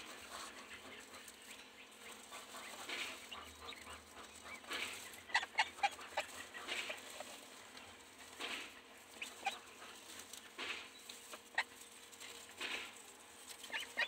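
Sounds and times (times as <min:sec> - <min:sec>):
poultry calling: 0:00.0 - 0:14.0.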